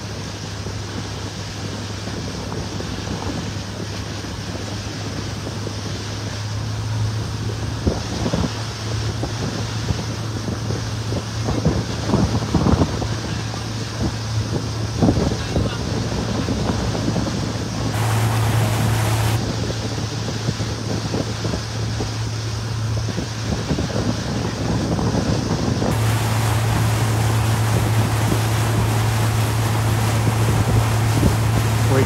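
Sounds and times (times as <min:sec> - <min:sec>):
boat motor drone: 0:00.0 - 0:32.0
water rushing: 0:00.0 - 0:32.0
wind buffeting microphone: 0:00.0 - 0:32.0.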